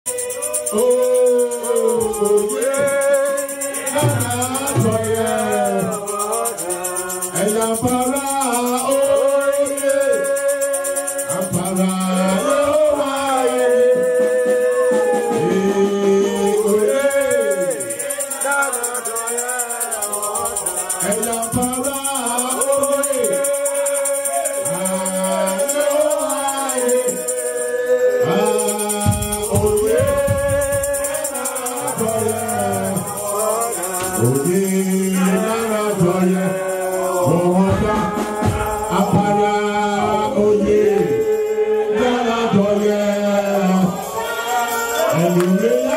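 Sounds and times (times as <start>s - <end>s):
worship singing over music: 0.0s - 45.9s
shaker rattling: 0.1s - 41.7s, 43.0s - 45.9s.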